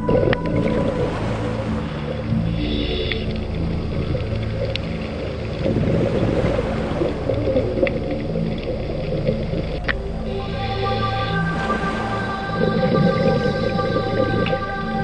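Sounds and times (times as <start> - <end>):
slow ambient music: 0.0 - 15.0.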